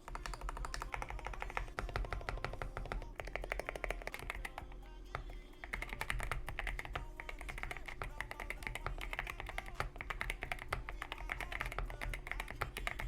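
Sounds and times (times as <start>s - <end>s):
background music: 0.0s - 13.0s
mechanical keyboard typing: 0.0s - 13.0s.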